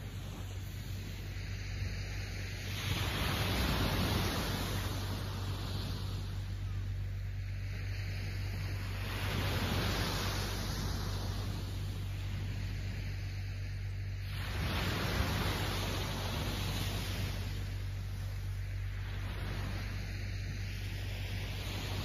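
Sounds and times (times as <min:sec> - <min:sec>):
small waves breaking on beach: 0:00.0 - 0:22.0.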